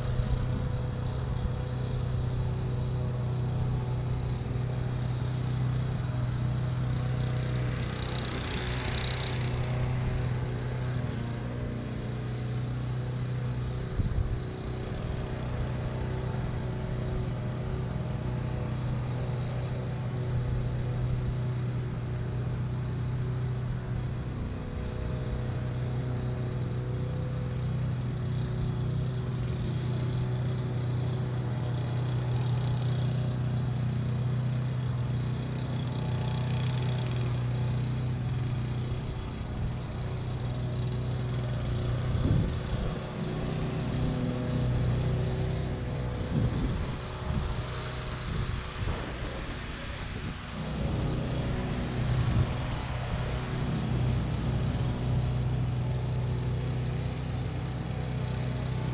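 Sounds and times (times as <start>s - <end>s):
drone motors humming: 0.0s - 58.9s.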